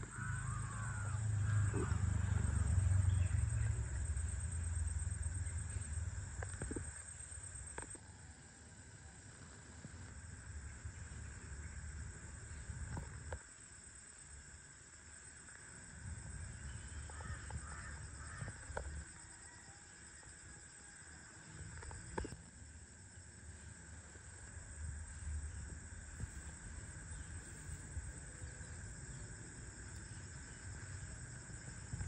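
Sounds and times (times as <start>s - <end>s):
high insect hum: 0.0s - 32.0s.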